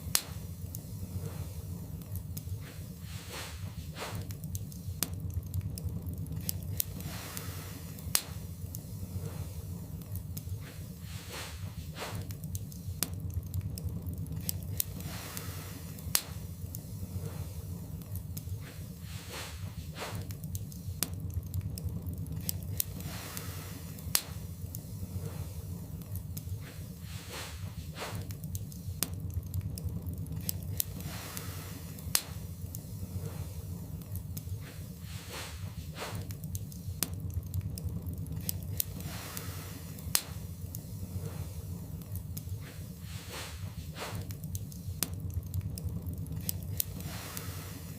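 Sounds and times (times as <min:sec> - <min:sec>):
low rumble: 0:00.0 - 0:47.9
soft hiss: 0:00.0 - 0:47.9
wood fire crackling: 0:00.0 - 0:47.9.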